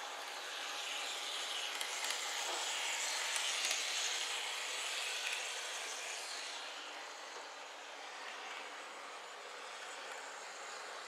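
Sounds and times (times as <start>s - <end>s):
model trains rolling on track: 0.0s - 11.0s.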